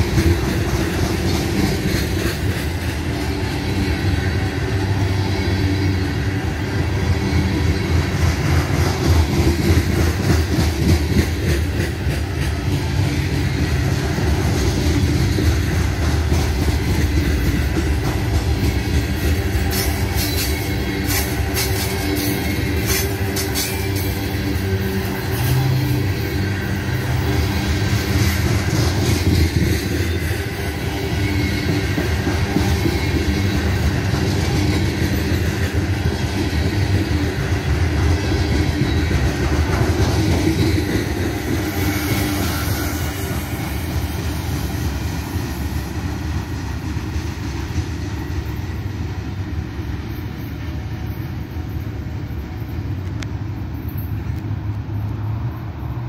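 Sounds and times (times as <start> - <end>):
freight train rolling past: 0.0 - 56.0
wheels clattering on rails: 0.0 - 56.0.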